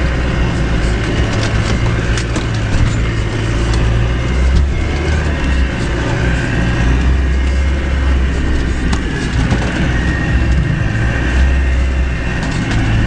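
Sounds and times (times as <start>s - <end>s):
off-road vehicle engine rumble: 0.0s - 13.0s
road and body noise: 0.0s - 13.0s.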